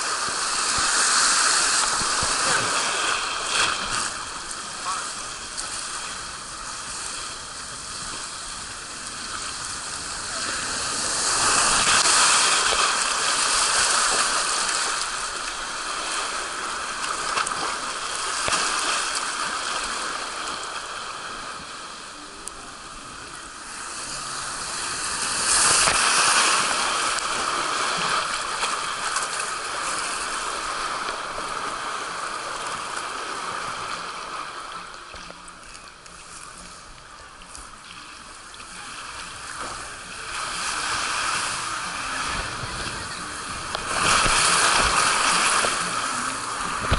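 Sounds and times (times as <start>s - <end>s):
water rushing and splashing: 0.0s - 46.9s.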